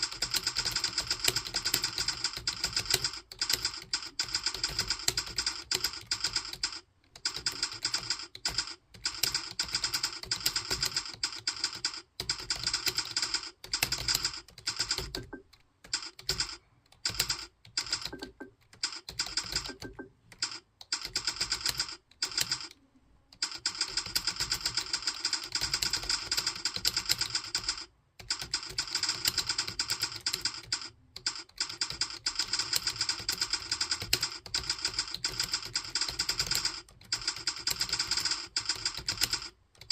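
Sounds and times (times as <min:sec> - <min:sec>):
fast typing on computer keyboard: 0:00.0 - 0:22.8, 0:23.4 - 0:39.9.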